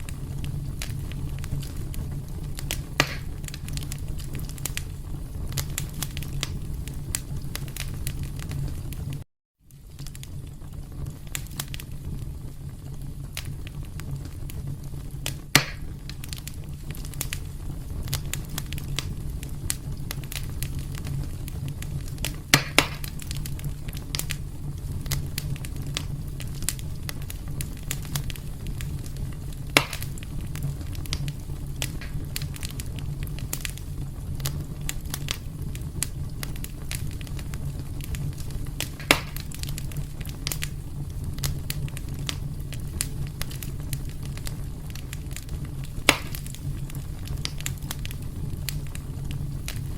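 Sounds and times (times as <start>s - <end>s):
fire crackling and popping: 0.0s - 49.9s
fire flames rumbling: 0.0s - 49.9s.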